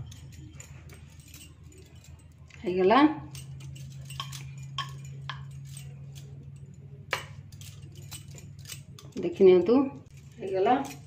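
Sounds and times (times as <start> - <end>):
bangles clinking: 0.0 - 11.0
steady low hum: 0.0 - 11.0.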